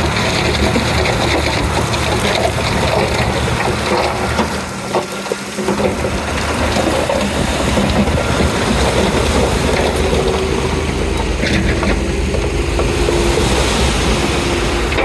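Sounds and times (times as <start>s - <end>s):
bulldozer diesel engine running: 0.0s - 15.0s
track and blade noise: 0.0s - 15.0s.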